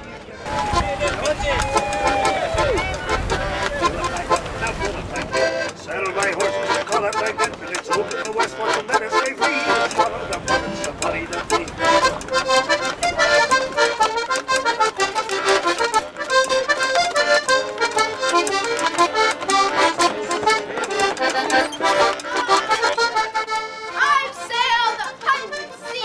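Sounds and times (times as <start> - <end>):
accordion music: 0.0 - 26.0
person speaking: 2.8 - 26.0.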